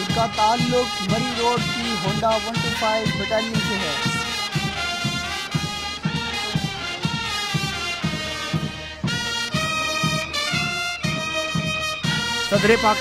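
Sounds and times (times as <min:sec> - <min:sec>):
held brass-like notes: 0:00.0 - 0:13.0
steady thumping beat: 0:00.0 - 0:13.0.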